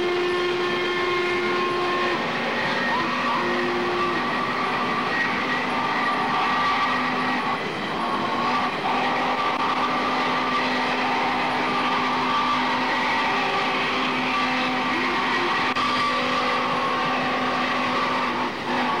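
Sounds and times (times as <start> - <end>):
held tones: 0.0 - 19.0
steam locomotive running by: 0.0 - 19.0.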